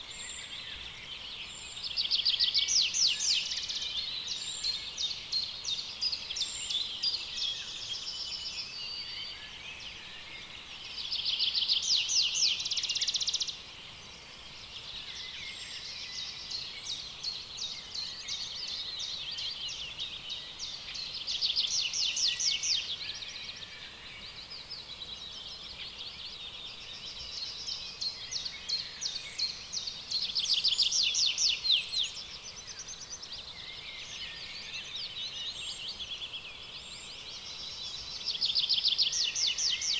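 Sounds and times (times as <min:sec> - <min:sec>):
chorus of bird calls and trills: 0:00.0 - 0:39.9.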